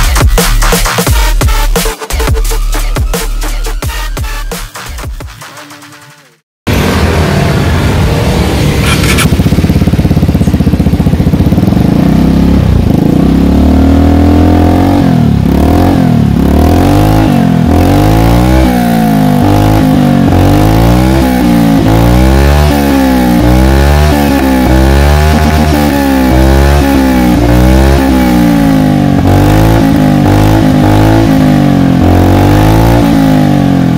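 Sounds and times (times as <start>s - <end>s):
scooter engine idling and revving: 6.7s - 33.9s.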